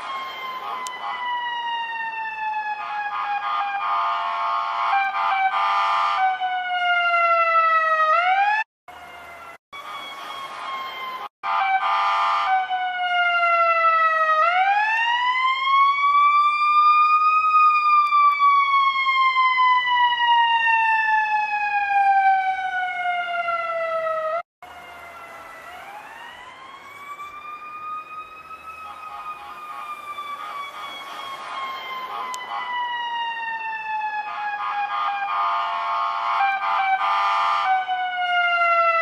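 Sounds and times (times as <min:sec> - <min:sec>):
electronic siren wailing: 0:00.0 - 0:39.0.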